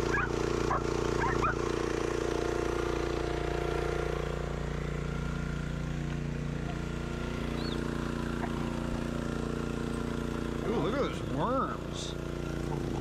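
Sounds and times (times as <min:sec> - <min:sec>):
small gas engine running: 0:00.0 - 0:13.0.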